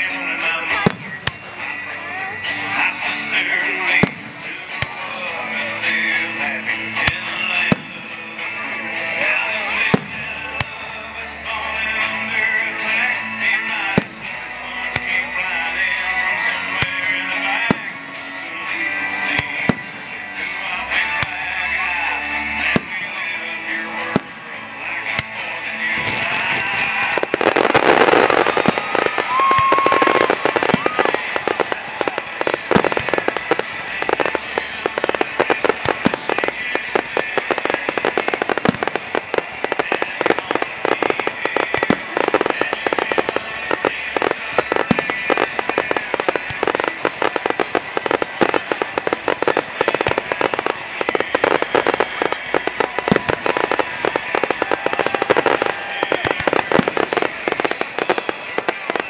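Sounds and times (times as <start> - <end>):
fireworks cracking and popping: 0.0 - 59.0.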